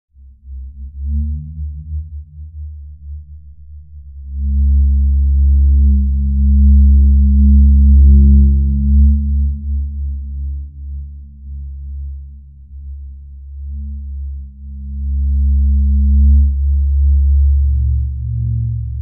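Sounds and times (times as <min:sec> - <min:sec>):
low electronic drone: 0:00.2 - 0:19.0.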